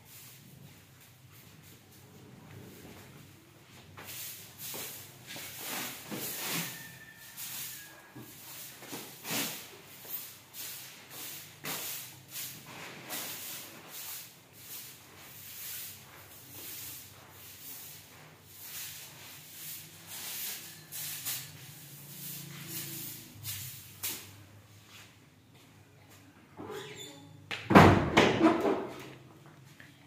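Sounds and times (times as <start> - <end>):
broom sweeping a stone floor: 0.0 - 25.4.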